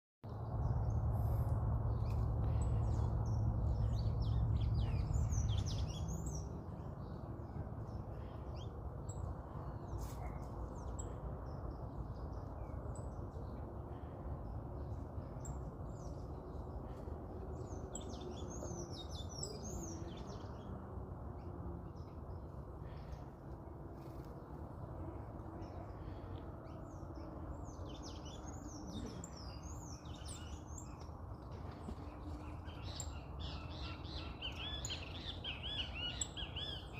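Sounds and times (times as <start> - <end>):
small birds chirping: 0.3 - 36.9.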